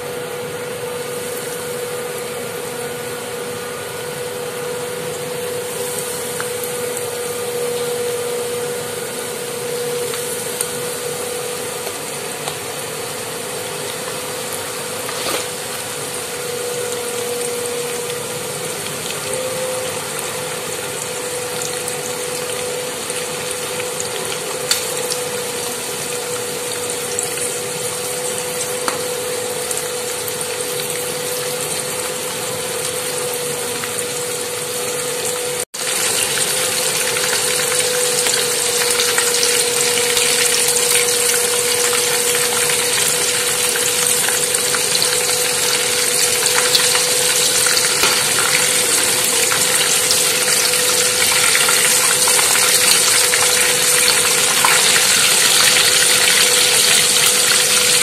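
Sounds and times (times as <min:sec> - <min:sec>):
prawns sizzling in hot oil: 0:00.0 - 0:58.0.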